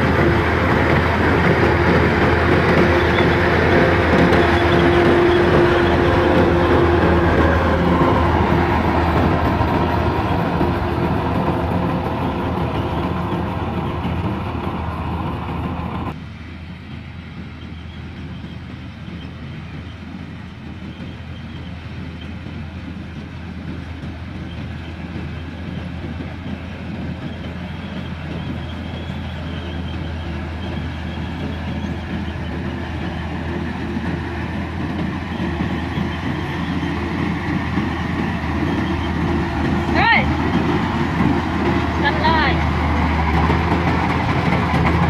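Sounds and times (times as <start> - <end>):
combine harvester running: 0.0 - 45.0.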